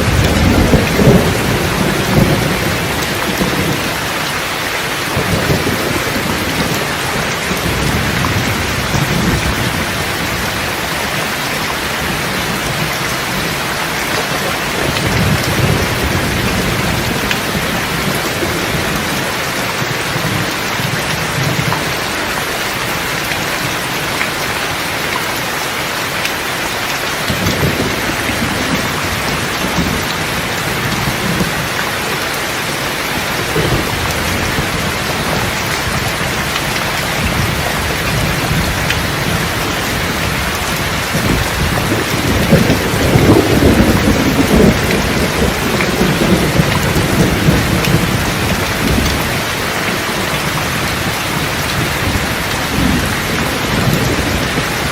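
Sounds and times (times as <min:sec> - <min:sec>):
rolling thunder: 0:00.0 - 0:22.1, 0:27.2 - 0:54.9
heavy rain hissing: 0:00.0 - 0:54.9.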